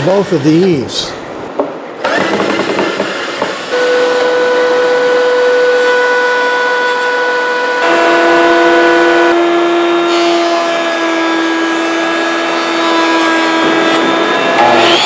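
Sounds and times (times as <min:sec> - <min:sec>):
thickness planer whining: 0:02.0 - 0:15.0.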